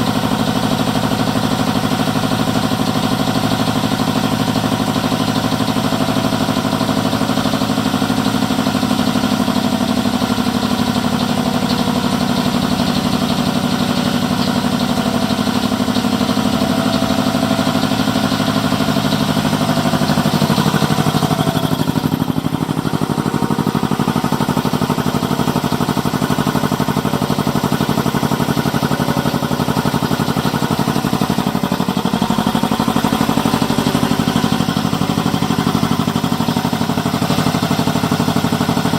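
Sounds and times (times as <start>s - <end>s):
air compressor running: 0.0s - 38.9s.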